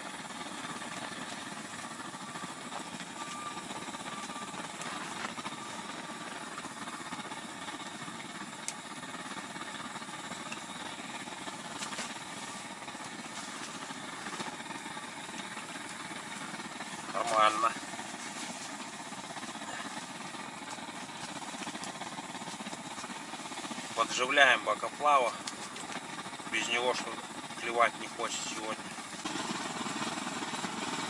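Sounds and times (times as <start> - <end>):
blowtorch hissing: 0.0 - 31.0.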